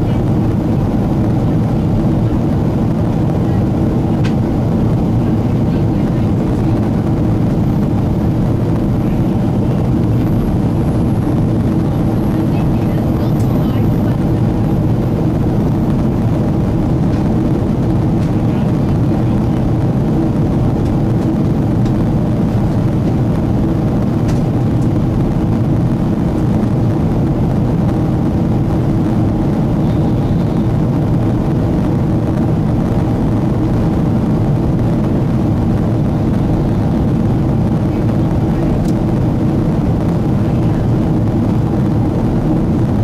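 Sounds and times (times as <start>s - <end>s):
airplane cabin engine drone: 0.0s - 43.0s.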